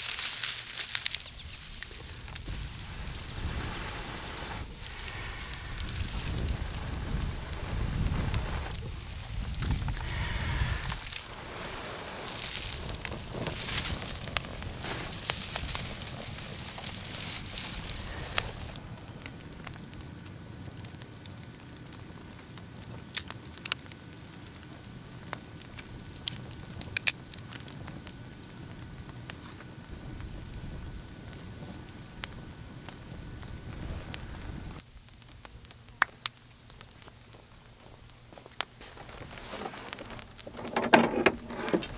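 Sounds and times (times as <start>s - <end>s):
dry grass crackling as it burns: 0.0s - 41.9s
insect trill: 0.0s - 41.9s.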